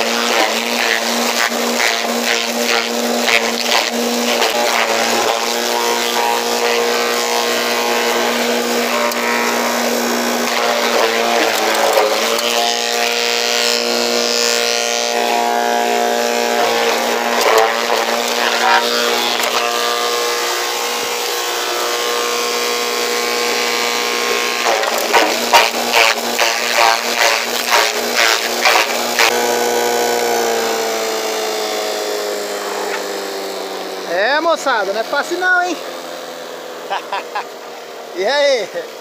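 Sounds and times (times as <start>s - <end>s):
forage chopper shredding corn: 0.0s - 39.0s.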